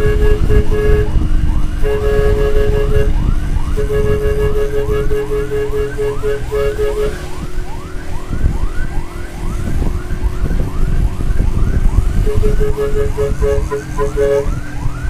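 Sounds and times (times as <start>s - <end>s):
siren yelp: 0.0s - 15.0s
wind and road noise: 0.0s - 15.0s.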